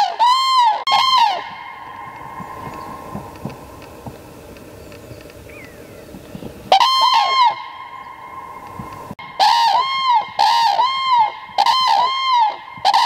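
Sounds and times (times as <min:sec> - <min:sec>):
crane trumpeting call: 0:00.0 - 0:13.0.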